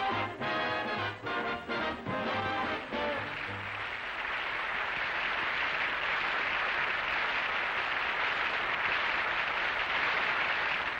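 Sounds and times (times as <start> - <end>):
audience applause: 0.7 - 10.9.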